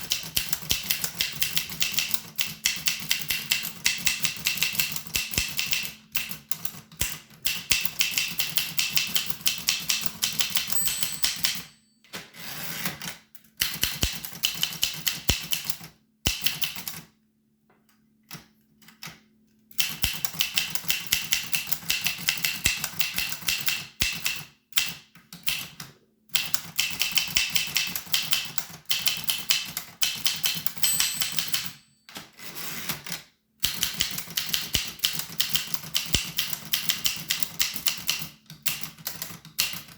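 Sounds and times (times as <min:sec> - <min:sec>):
typewriter keystrokes clacking: 0:00.0 - 0:11.7, 0:13.6 - 0:17.0, 0:19.8 - 0:25.8, 0:26.4 - 0:31.8, 0:33.6 - 0:39.9.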